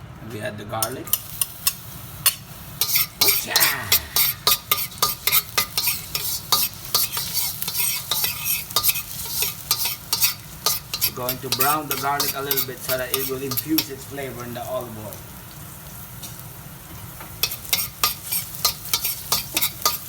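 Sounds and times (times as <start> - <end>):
utensil scraping a wok: 1.1 - 14.9, 17.0 - 20.0
garlic sizzling in oil: 1.1 - 20.0.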